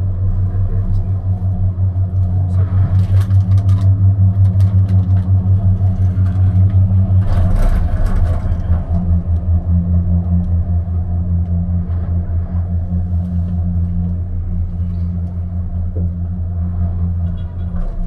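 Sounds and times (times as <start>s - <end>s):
cable car cabin humming: 0.0s - 18.0s.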